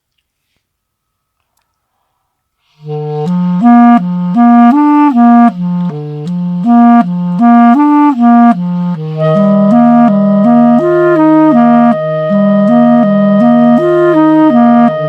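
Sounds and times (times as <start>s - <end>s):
clarinets playing melody: 2.8s - 15.0s
low held note: 2.8s - 15.0s.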